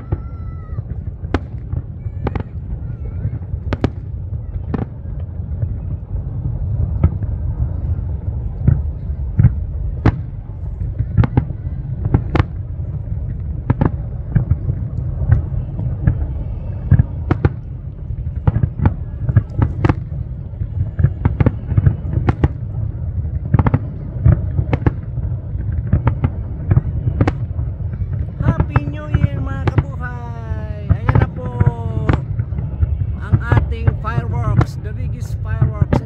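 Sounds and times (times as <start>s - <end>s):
fireworks bursting: 0.0s - 36.0s
steady low rumble: 0.0s - 36.0s.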